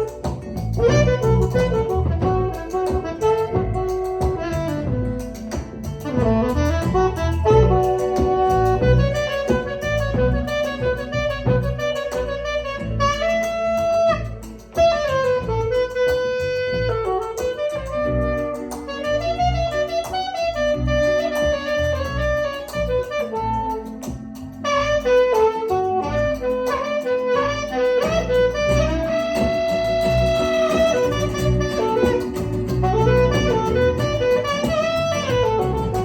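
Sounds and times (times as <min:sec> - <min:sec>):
drum beat: 0:00.0 - 0:20.4, 0:25.0 - 0:36.0
bass line: 0:00.0 - 0:36.0
lead melody: 0:00.0 - 0:36.0.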